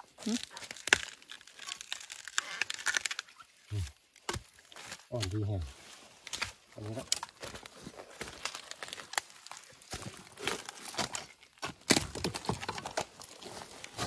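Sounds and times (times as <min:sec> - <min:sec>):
dry leaves rustling: 0:00.0 - 0:14.0.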